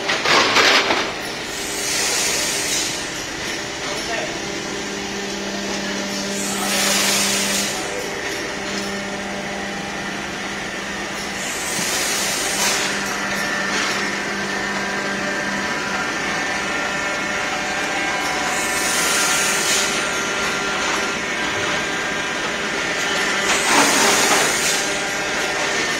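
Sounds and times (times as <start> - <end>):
machine hum with tones: 0.0 - 25.9.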